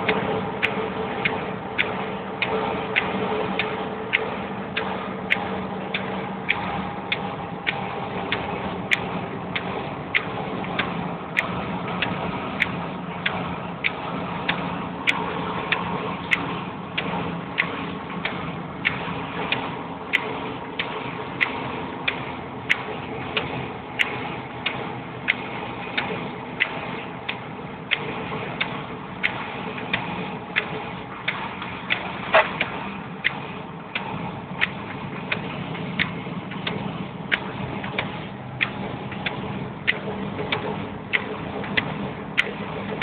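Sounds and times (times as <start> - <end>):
car engine and tyres humming: 0.0 - 43.0
sharp ticking: 0.0 - 43.0.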